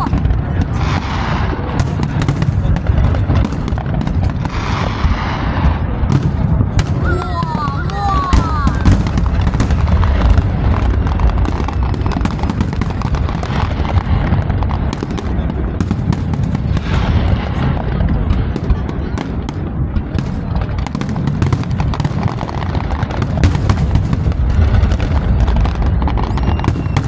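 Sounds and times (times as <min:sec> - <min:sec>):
steady low rumble: 0:00.0 - 0:07.6, 0:08.2 - 0:27.0
fireworks bangs and crackles: 0:00.0 - 0:27.0
onlookers' voices: 0:00.0 - 0:27.0.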